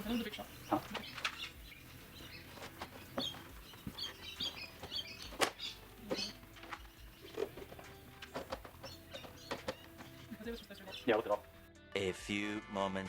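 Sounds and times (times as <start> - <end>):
hand tools clicking and knocking: 0.0 - 11.5
birds chirping: 0.0 - 11.7.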